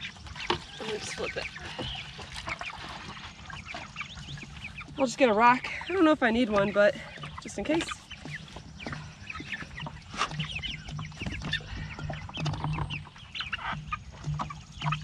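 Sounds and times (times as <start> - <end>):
chickens peeping and clucking: 0.0 - 15.0.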